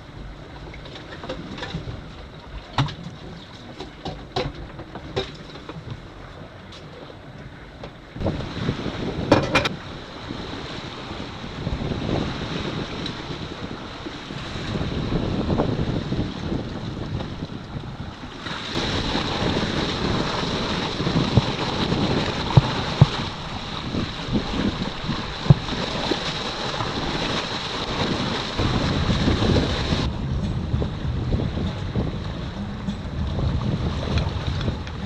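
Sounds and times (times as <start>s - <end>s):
sea water rushing around boat: 0.0s - 35.0s
wind buffeting microphone: 0.0s - 35.0s.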